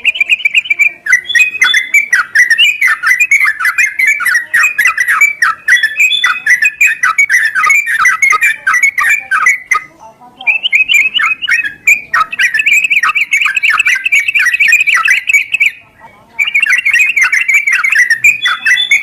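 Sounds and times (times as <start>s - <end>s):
bird chattering call: 0.0s - 19.0s.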